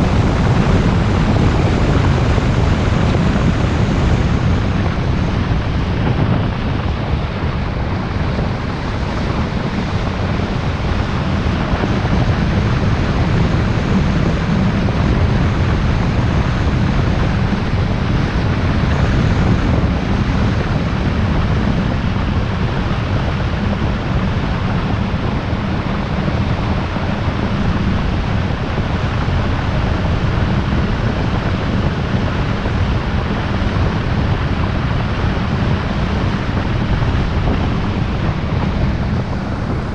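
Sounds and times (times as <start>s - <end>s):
heavy low rumble: 0.0s - 39.9s
wind and road noise in car: 0.0s - 39.9s.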